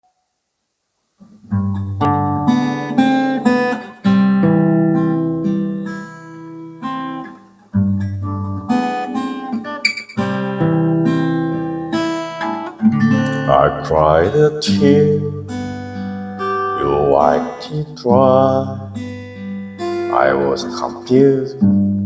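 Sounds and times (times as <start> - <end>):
acoustic guitar chords: 1.2 - 22.0.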